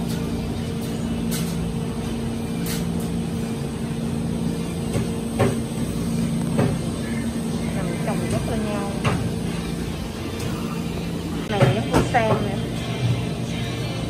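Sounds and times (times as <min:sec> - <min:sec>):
mechanical hum of equipment: 0:00.0 - 0:14.0.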